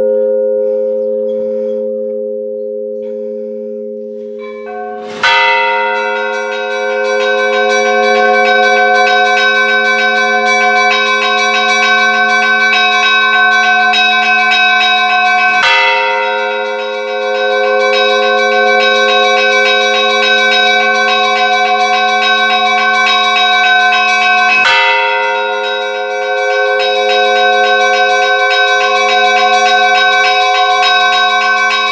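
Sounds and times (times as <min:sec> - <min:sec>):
church bells pealing: 0:00.0 - 0:31.9.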